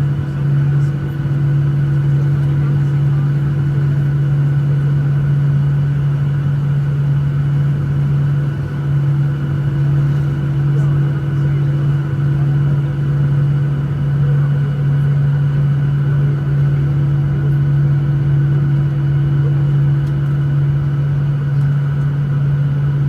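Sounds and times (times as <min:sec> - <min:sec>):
jet engines idling: 0:00.0 - 0:23.0.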